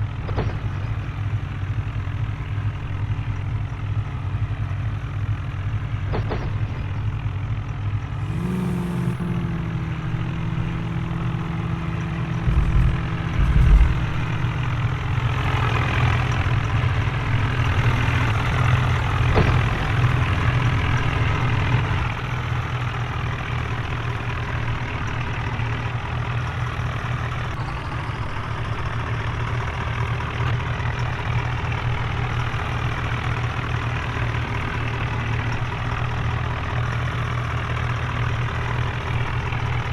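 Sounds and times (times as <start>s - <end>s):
tractor diesel engines running hard: 0.0s - 39.9s.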